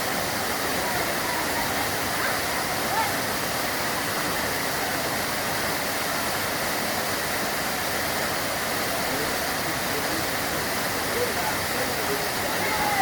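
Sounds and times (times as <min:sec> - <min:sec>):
fast river water: 0:00.0 - 0:13.0
waterfall rushing: 0:00.0 - 0:13.0.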